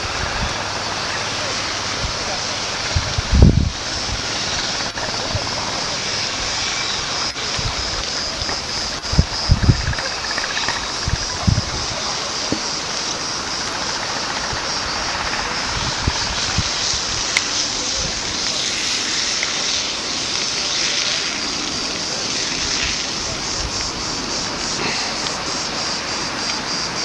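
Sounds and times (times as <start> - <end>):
helicopter rushing drone: 0.0 - 27.0.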